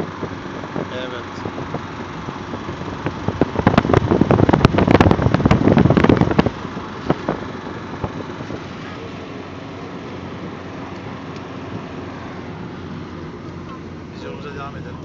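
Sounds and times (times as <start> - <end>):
car driving: 0.0 - 15.0.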